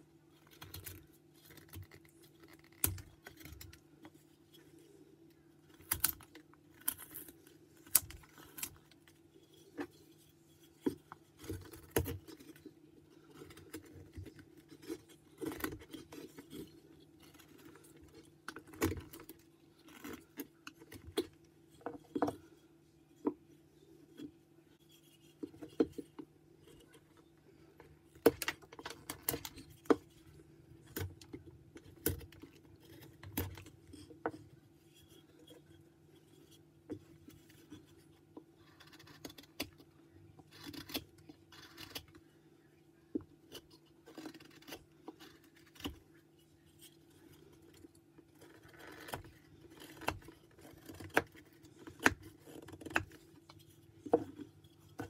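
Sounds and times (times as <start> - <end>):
knife cutting and scraping wood: 5.7 - 39.8, 40.4 - 42.2, 43.3 - 55.0.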